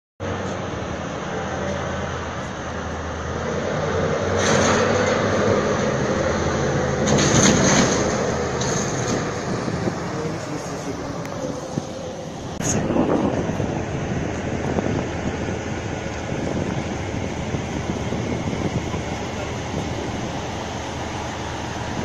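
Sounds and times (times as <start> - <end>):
diesel engines running: 0.2 - 22.0.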